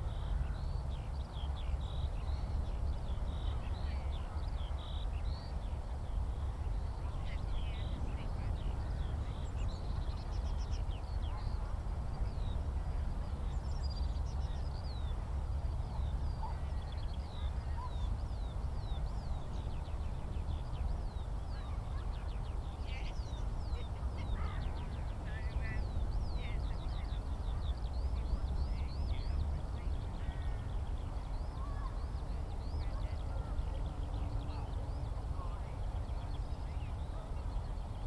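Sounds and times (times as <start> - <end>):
skylark singing: 0.0 - 38.0.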